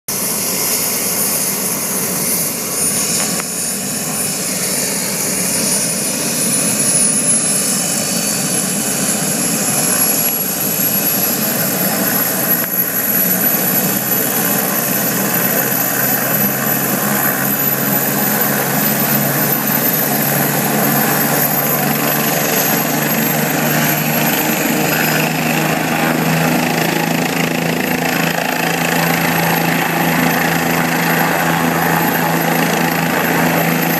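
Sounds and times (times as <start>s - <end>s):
helicopter rotor hum: 0.1s - 33.9s
helicopter turbine whine: 0.1s - 33.9s.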